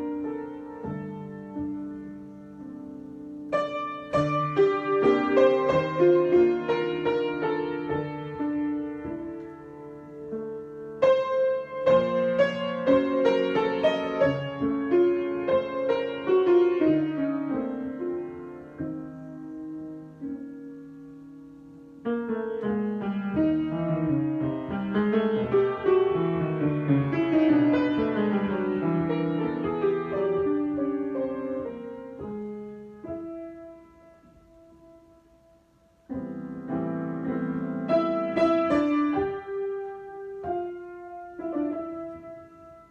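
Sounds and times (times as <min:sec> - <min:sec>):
solo piano improvisation: 0:00.0 - 0:42.9.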